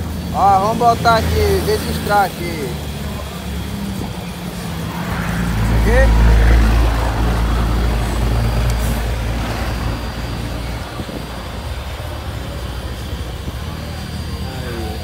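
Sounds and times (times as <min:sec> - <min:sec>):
motor vehicle engine rumble: 0:00.0 - 0:15.0.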